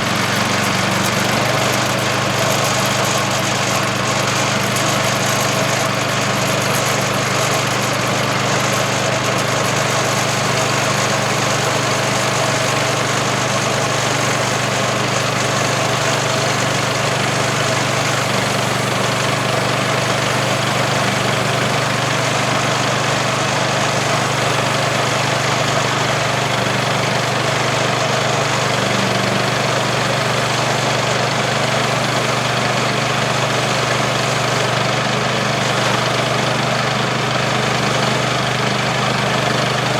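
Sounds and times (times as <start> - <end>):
bandsaw mill cutting wood: 0.0 - 39.9.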